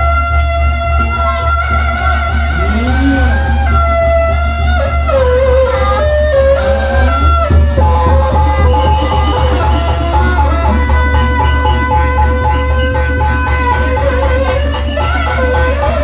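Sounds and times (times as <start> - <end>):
drumming: 0.0 - 16.0
sliding melody over heavy bass: 0.0 - 16.0.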